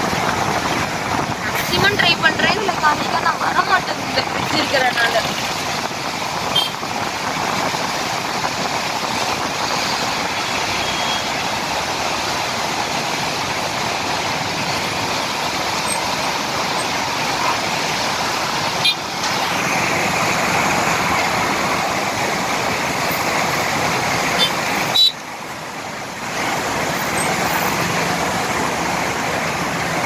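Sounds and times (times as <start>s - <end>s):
river rushing roar: 0.0s - 30.0s
road traffic passing: 0.0s - 30.0s.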